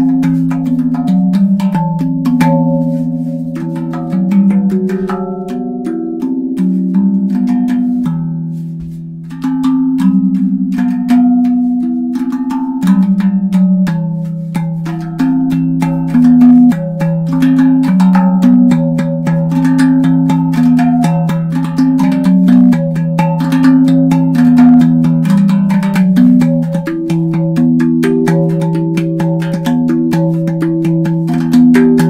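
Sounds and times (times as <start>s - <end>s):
steel tongue drum played by hand: 0.0s - 32.0s.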